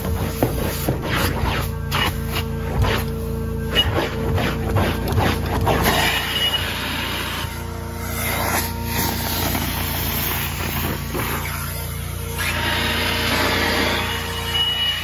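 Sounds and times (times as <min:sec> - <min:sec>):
carpet extraction machine drone: 0:00.0 - 0:15.0.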